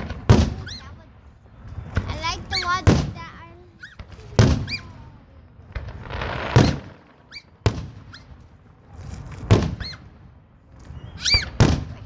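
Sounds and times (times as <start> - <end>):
firework whistling: 0.0 - 12.0
fireworks exploding: 0.0 - 12.0.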